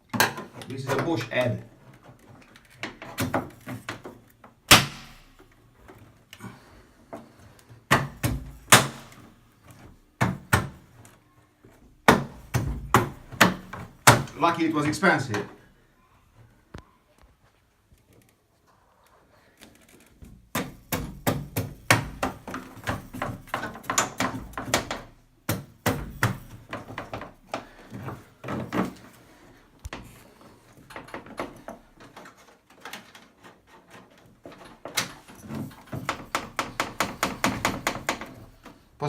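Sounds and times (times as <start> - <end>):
knocking and rattling on washing machine: 0.0 - 6.0, 7.2 - 11.0, 11.9 - 15.5, 20.2 - 38.9.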